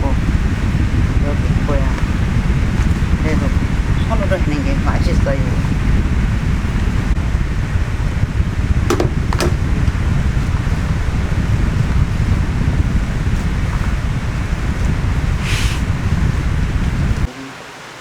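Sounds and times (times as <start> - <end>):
wind buffeting microphone: 0.0 - 17.3.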